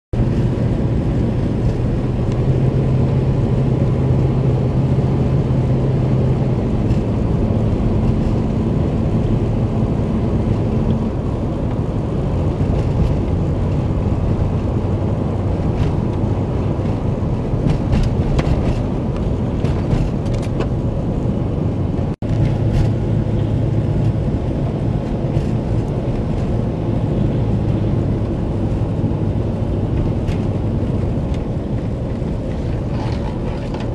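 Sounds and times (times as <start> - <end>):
vehicle engine and tyre drone: 0.1 - 33.9.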